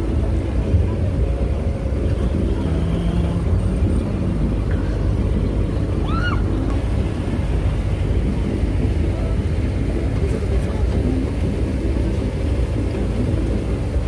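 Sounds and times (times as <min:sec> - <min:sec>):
moving vehicle rumble: 0:00.0 - 0:14.0.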